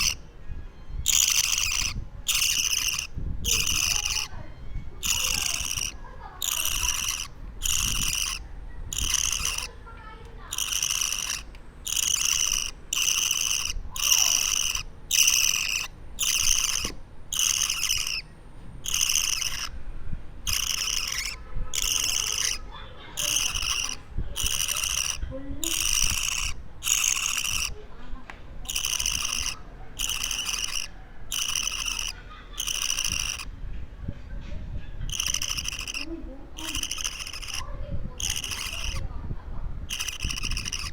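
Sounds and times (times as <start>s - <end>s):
bird chick rasping calls: 0.0s - 19.8s, 20.4s - 27.9s, 28.6s - 33.5s, 34.7s - 40.9s.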